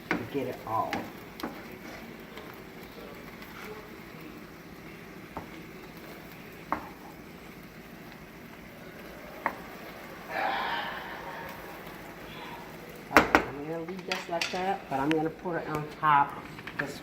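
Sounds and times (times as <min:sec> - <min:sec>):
chicken sizzling in frying pan: 0:00.0 - 0:17.0.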